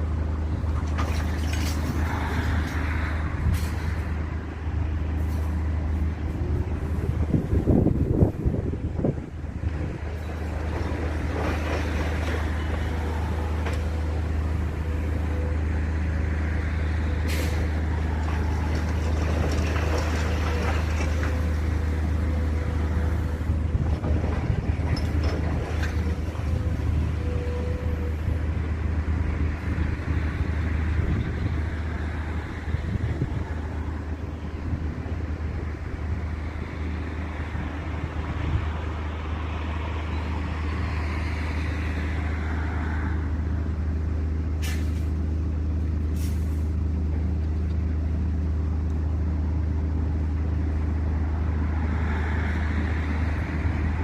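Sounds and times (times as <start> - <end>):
large engine droning: 0.0 - 54.0.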